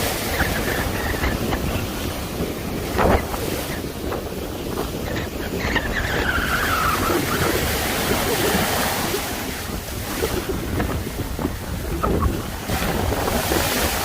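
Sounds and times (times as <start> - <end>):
heavy surf breaking: 0.0 - 14.0
strong wind: 0.0 - 14.0.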